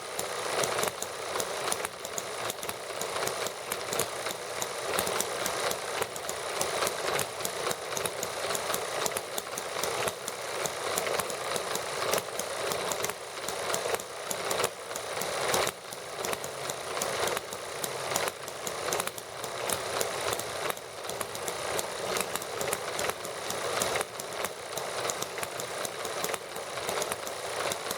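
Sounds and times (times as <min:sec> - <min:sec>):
model gasoline engines running: 0:00.0 - 0:27.9.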